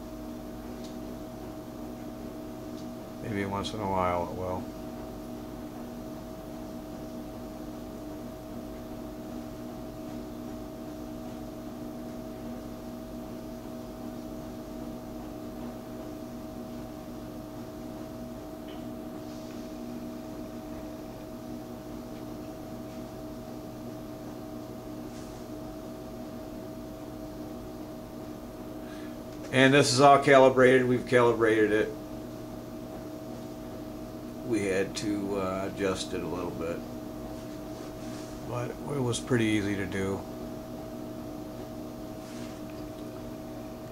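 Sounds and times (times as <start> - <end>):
computer fans humming: 0.0 - 43.9.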